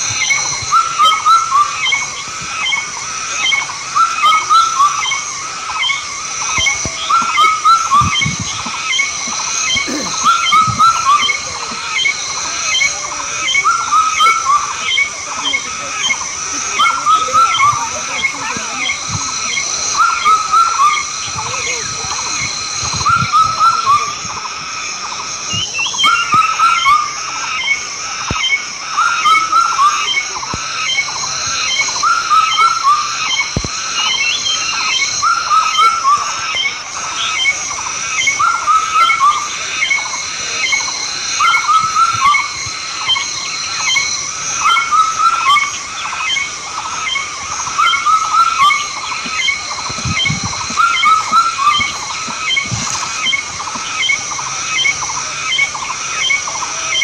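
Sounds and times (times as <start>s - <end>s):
chirping calls: 0.0s - 57.0s
steady high-pitched drone: 0.0s - 57.0s.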